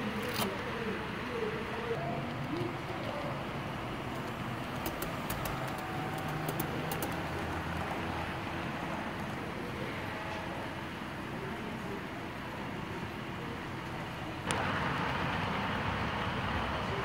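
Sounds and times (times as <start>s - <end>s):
model train rumble and hum: 0.0s - 17.0s.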